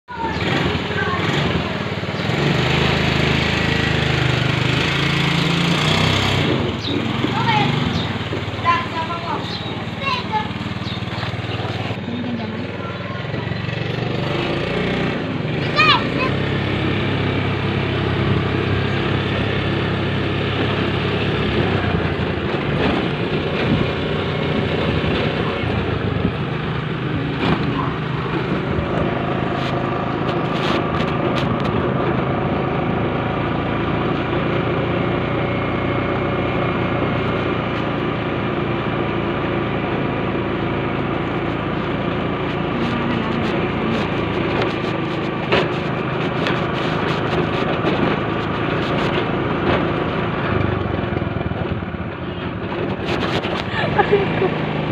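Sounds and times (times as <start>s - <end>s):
road and wind noise: 0.0s - 54.9s
vehicle engine running: 0.0s - 54.9s.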